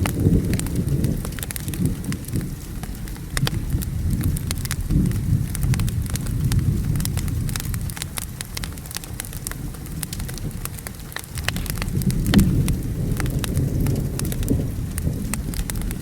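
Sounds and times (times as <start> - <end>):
rolling thunder: 0.0 - 16.0
steady rain: 0.0 - 16.0
wood fire crackling and popping: 0.0 - 16.0.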